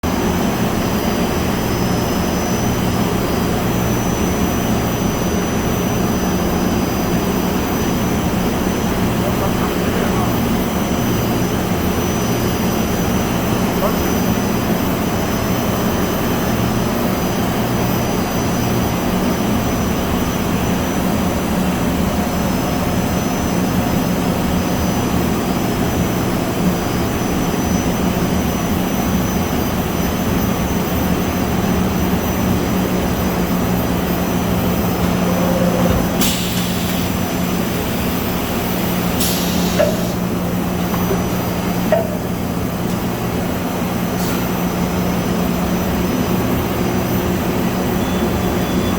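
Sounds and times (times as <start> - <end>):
machine hum with high whine: 0.0 - 48.9.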